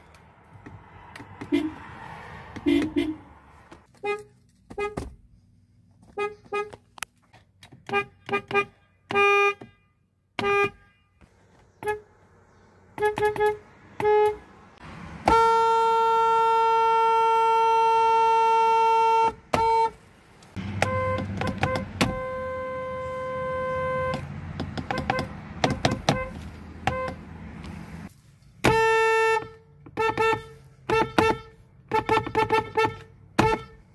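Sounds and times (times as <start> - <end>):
car horns honking: 0.6 - 5.2, 6.0 - 7.0, 7.6 - 27.8, 28.6 - 33.9.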